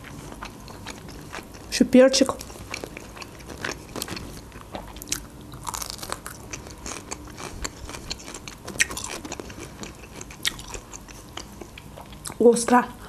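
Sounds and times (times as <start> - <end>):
pepper crunching: 0.0 - 12.4.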